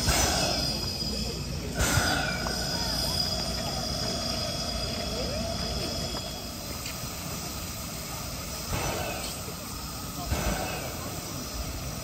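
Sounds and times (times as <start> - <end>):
faint crowd voices: 0.0 - 12.0
steam locomotive hissing steam: 0.0 - 12.0.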